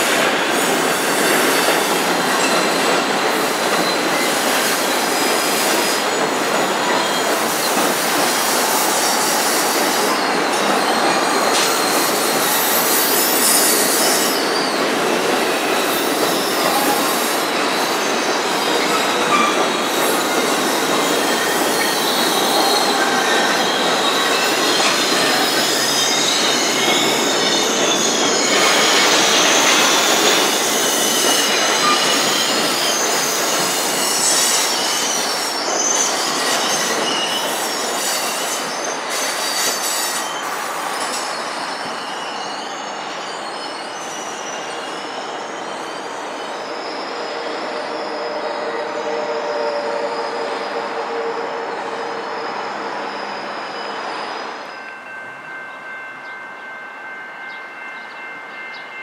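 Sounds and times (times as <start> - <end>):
train wheels rushing on rail: 0.0 - 59.0
high-pitched wheel squeal: 3.8 - 54.9.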